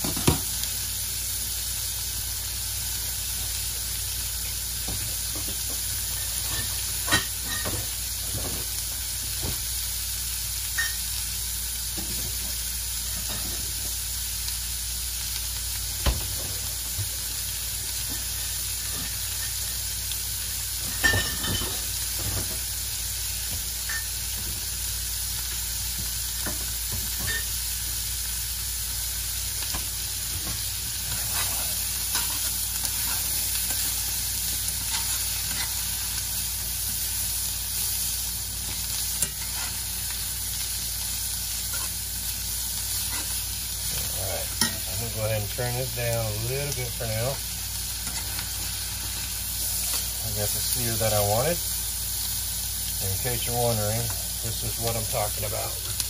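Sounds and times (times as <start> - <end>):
vegetables sizzling in a skillet: 0.0 - 56.0.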